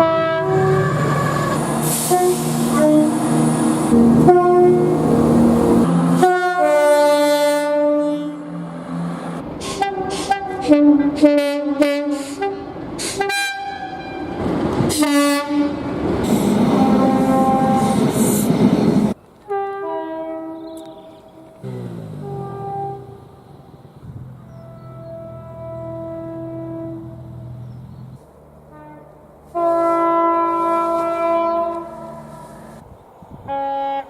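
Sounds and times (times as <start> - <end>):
train horn blasts: 0.0 - 3.3, 3.9 - 15.9, 16.6 - 18.1, 19.4 - 23.6, 24.5 - 27.8, 28.7 - 32.8, 33.4 - 34.0
rumble of passing trains: 0.0 - 34.0.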